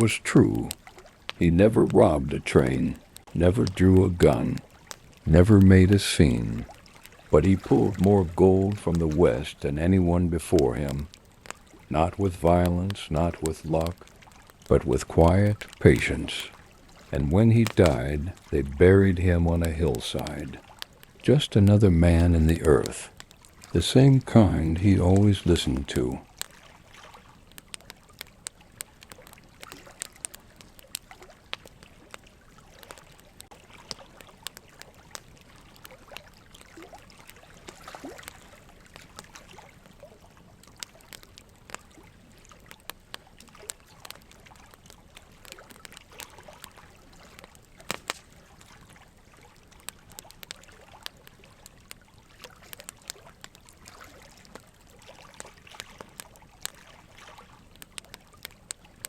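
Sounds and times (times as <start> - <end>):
low steady hiss: 0.0 - 59.0
small clicks and crackles: 0.0 - 59.0.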